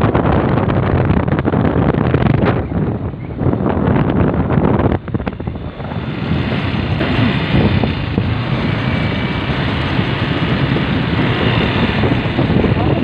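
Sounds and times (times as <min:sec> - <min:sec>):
vehicle low rumble: 0:00.0 - 0:13.0
wind rushing over microphone: 0:00.0 - 0:13.0.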